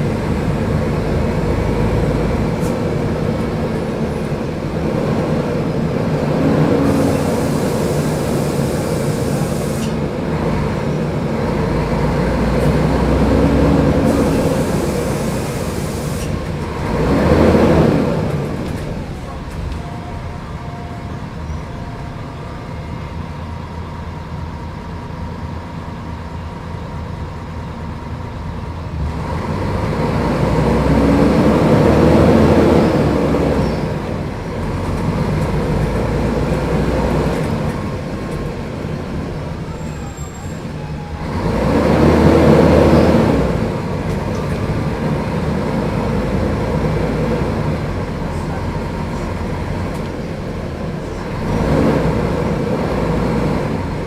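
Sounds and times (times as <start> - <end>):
bus diesel engine running: 0.0 - 54.0
road noise: 0.0 - 54.0.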